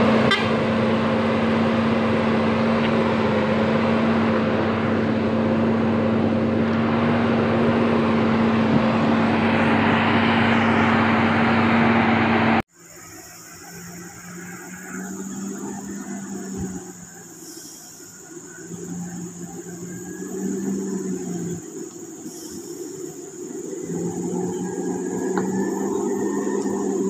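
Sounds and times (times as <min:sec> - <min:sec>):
quiet outdoor sound: 0:00.0 - 0:27.0
truck diesel engine running: 0:00.0 - 0:27.0.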